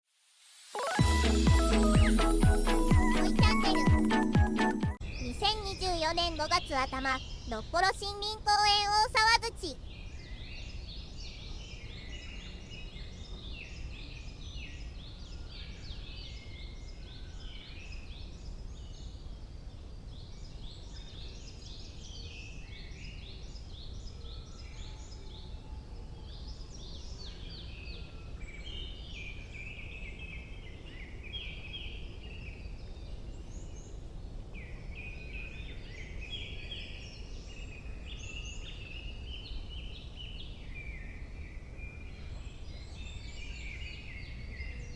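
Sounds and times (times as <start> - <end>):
songbirds chirping and trilling: 5.0 - 44.9.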